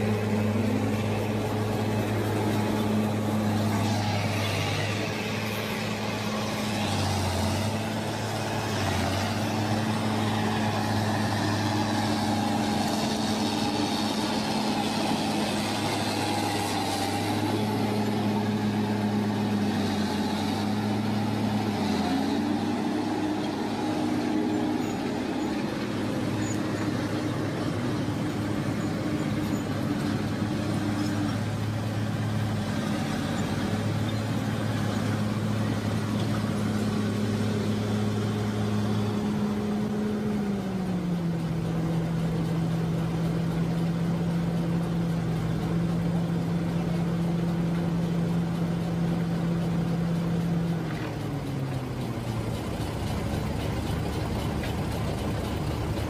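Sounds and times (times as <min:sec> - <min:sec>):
truck engine running under load: 0:00.0 - 0:56.0.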